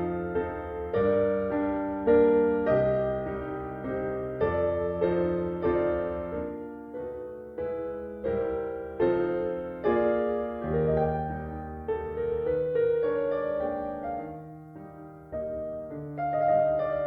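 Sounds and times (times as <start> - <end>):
gentle piano chords: 0.0 - 17.0.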